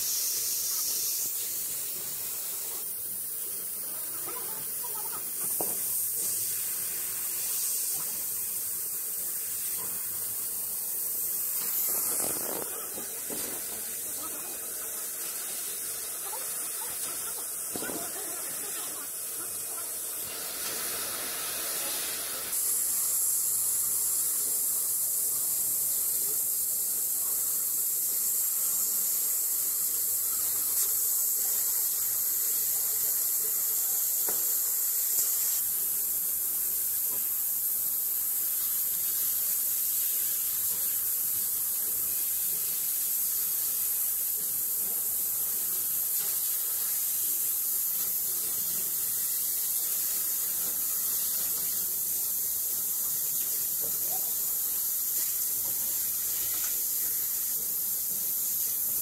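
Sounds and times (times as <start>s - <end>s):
laser cutter air hissing: 0.0s - 59.0s.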